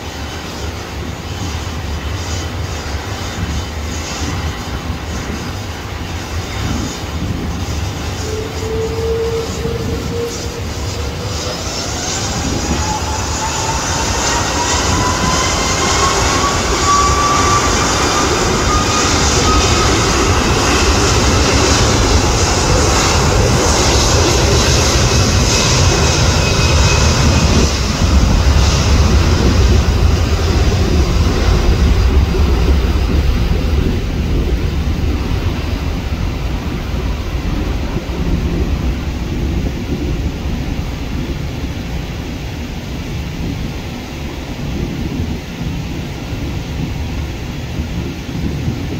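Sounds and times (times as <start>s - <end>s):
jet engines at takeoff thrust: 0.0s - 48.9s.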